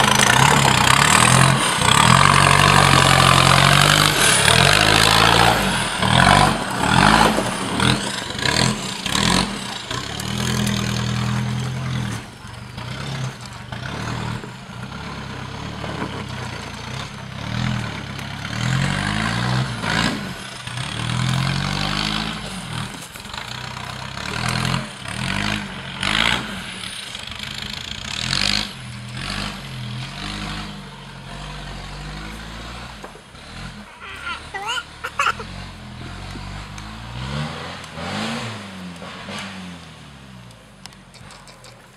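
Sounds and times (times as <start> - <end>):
off-road truck engine revving: 0.0 - 41.9.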